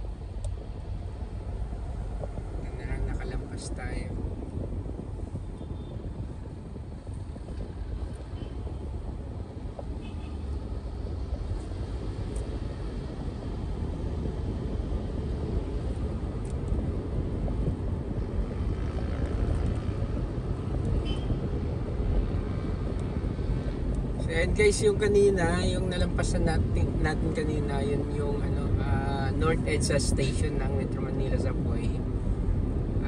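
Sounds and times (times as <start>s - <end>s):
vehicle driving on road: 0.0s - 33.0s.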